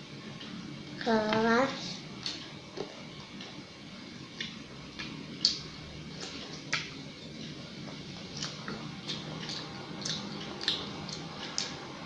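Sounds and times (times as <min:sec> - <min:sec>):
child eating and chewing: 0:00.3 - 0:12.0.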